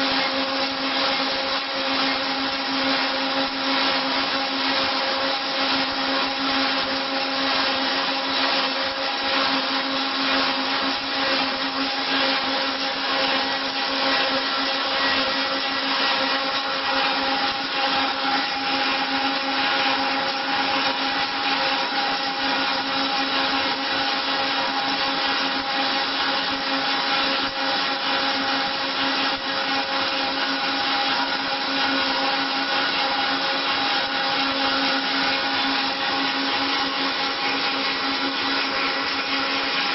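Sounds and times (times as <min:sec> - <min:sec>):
milling machine motor whine: 0:00.0 - 0:39.9.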